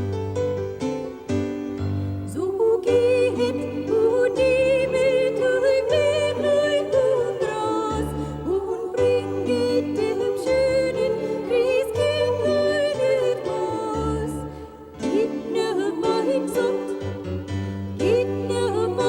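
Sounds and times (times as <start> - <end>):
keyboard accompaniment: 0.0 - 19.0
woman singing a carol: 2.4 - 17.2, 18.0 - 19.0.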